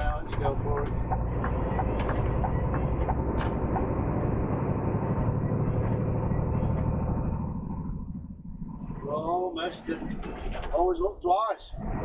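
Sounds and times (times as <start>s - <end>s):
lorry engine pulling away: 0.0s - 10.7s.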